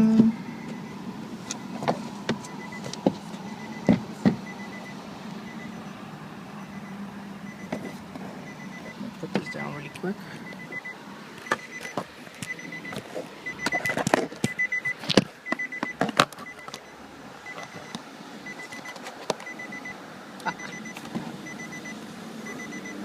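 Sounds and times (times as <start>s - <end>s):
car warning chime beeping: 0.0s - 23.0s.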